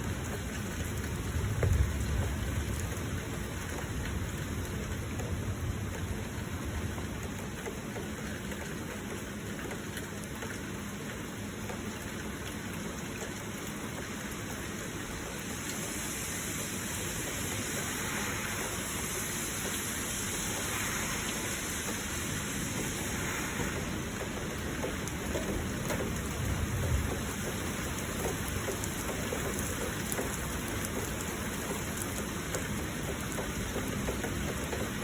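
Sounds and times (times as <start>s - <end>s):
flowing water: 0.0s - 35.0s
heavy rain: 0.0s - 35.0s.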